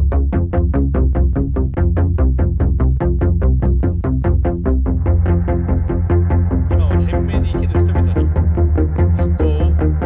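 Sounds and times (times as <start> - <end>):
bass drone: 0.0 - 10.0
rapid synthesizer notes: 0.0 - 10.0.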